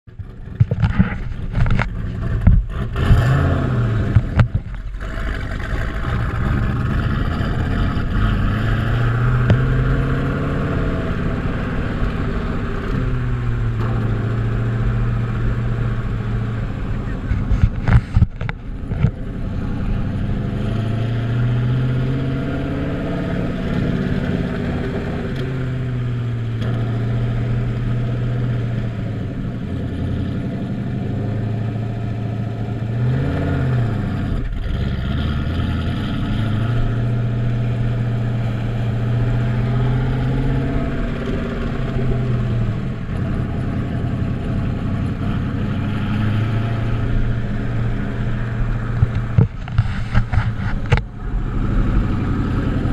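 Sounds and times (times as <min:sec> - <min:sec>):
car exhaust revving: 0:00.1 - 0:52.9.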